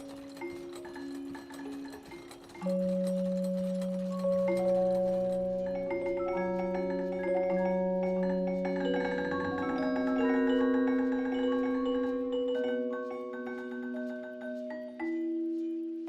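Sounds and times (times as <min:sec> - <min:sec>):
vibraphone-like mallet notes: 0:00.0 - 0:16.0.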